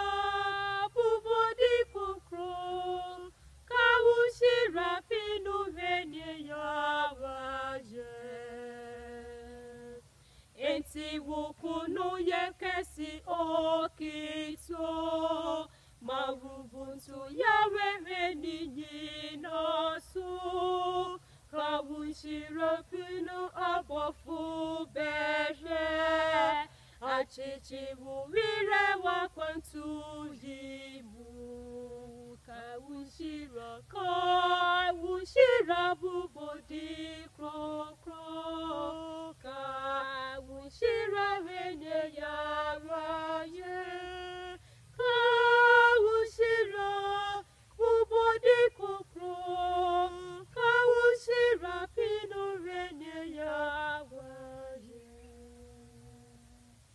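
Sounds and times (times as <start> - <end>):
women singing a hymn a cappella: 0.0 - 56.9.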